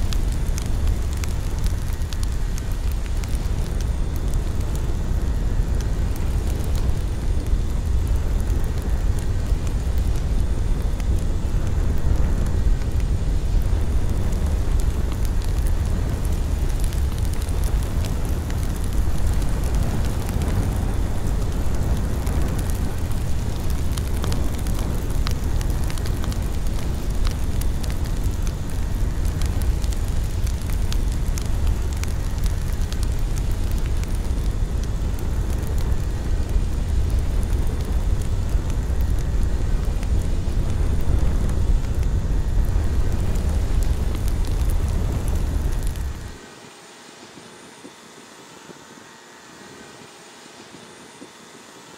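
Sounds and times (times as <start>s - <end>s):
wind buffeting microphone: 0.0s - 46.4s
faint crackles: 0.0s - 46.5s.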